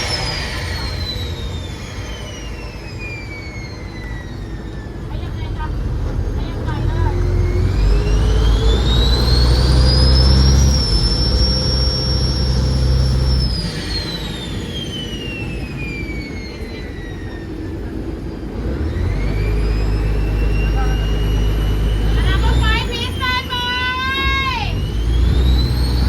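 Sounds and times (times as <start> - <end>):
boat engine rumbling and whining: 0.0 - 26.0.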